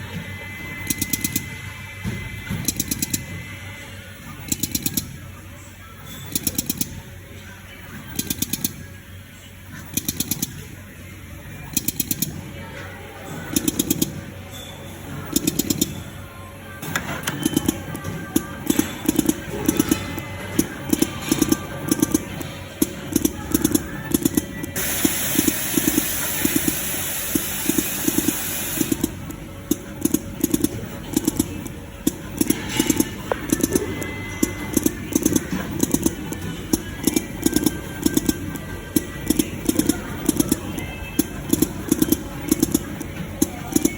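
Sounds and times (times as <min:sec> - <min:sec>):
steady mechanical noise: 0:00.0 - 0:43.9.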